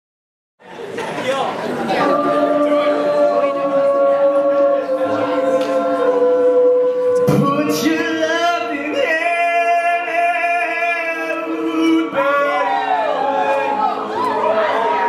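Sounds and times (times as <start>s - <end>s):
a cappella group singing: 1.9s - 15.0s
male soloist singing: 1.9s - 15.0s.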